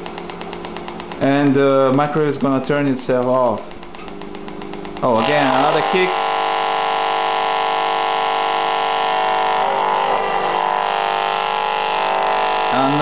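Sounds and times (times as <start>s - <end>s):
electrical buzz from radiation meter: 0.0s - 13.0s.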